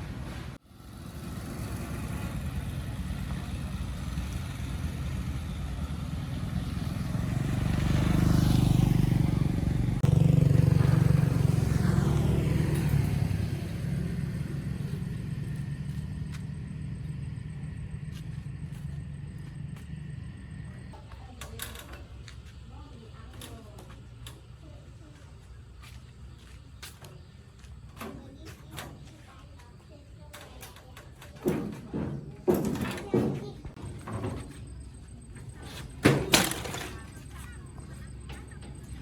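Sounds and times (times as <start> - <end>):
vehicle engine running: 0.0 - 30.0, 31.7 - 39.0.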